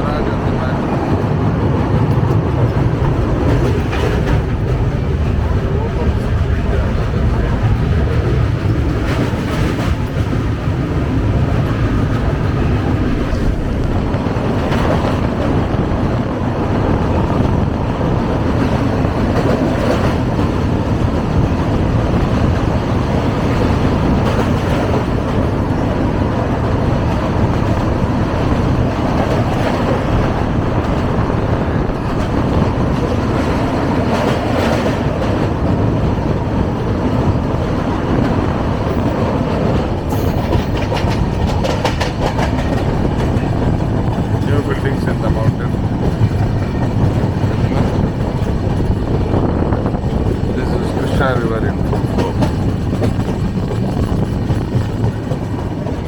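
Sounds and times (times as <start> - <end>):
train wheels rumbling on rails: 0.0 - 56.0
wheels clacking over rail joints: 0.0 - 56.0.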